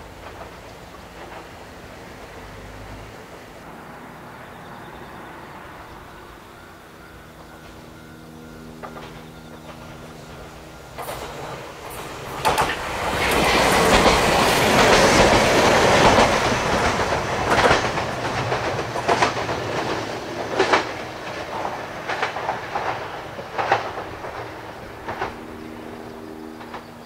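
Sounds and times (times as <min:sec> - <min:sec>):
electric train running noise: 0:00.0 - 0:27.0
wheels clacking over rail joints: 0:00.0 - 0:27.0.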